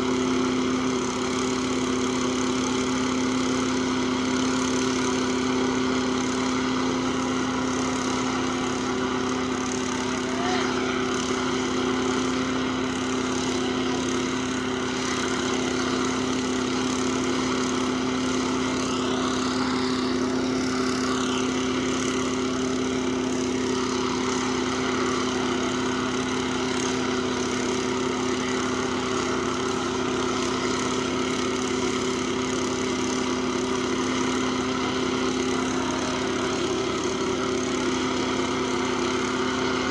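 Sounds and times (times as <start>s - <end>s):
small engine humming: 0.0s - 39.9s.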